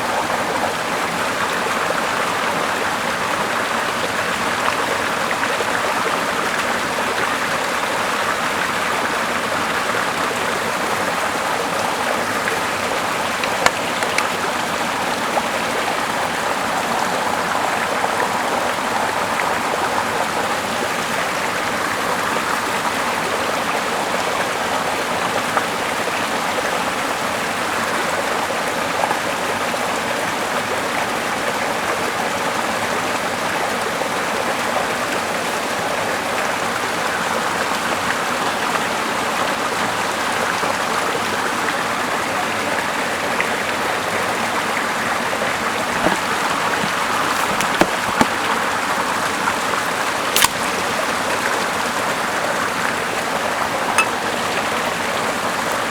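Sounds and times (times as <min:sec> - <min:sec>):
rushing water: 0:00.0 - 0:55.9.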